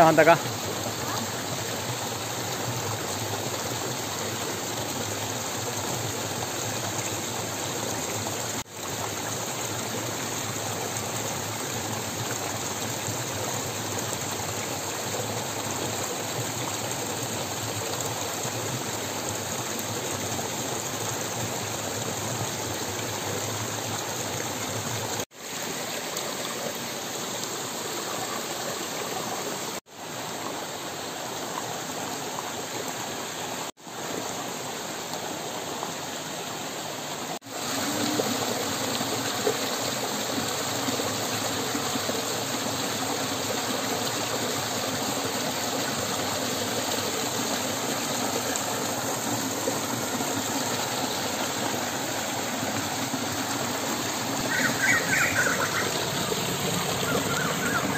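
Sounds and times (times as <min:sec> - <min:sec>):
stream splashing over rocks: 0:00.0 - 0:57.9.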